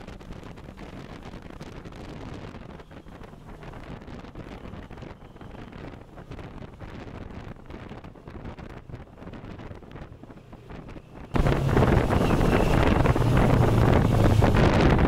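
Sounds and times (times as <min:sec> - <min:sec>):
road noise: 0:00.0 - 0:15.0
wind on microphone: 0:00.0 - 0:15.0.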